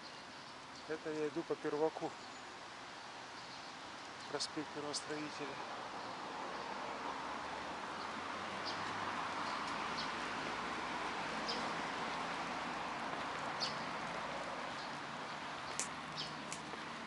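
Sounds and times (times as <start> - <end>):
small birds chirping: 0.0 - 6.8, 7.8 - 10.2, 11.4 - 12.4, 13.0 - 17.0.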